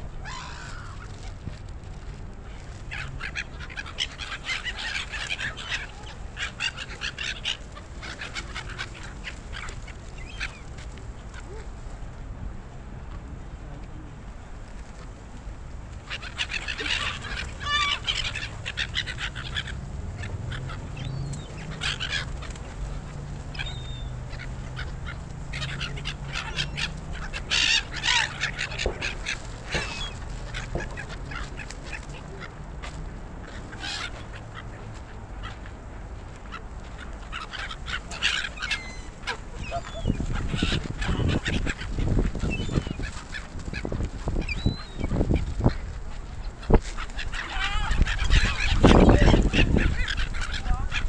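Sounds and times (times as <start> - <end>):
low steady rumble: 0.0 - 51.0
gulls squawking: 0.2 - 1.4, 2.6 - 11.7, 15.9 - 51.0.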